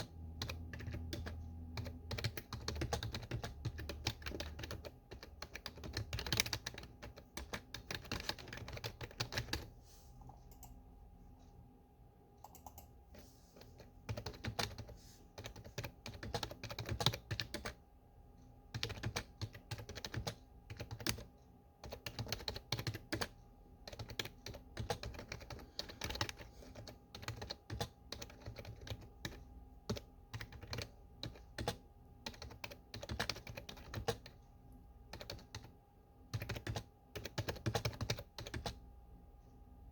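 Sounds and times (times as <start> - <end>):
keyboard typing: 0.0 - 10.8, 12.4 - 17.8, 18.7 - 34.4, 35.0 - 38.9.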